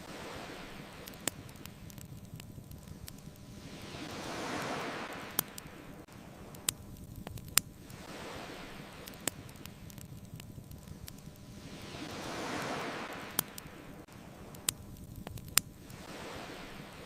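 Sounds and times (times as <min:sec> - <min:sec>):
ocean waves washing in: 0:00.0 - 0:17.0
wood fire crackling and popping: 0:00.2 - 0:16.8.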